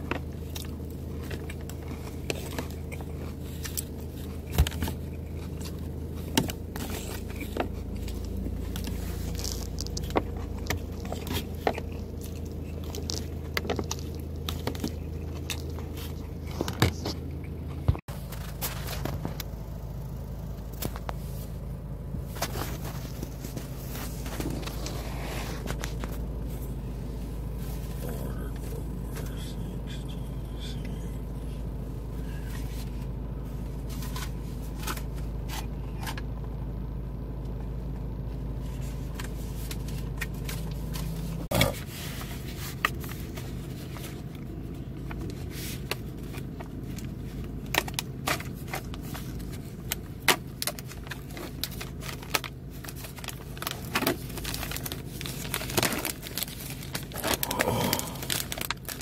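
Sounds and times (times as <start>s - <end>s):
low hum inside car: 0.0s - 59.0s.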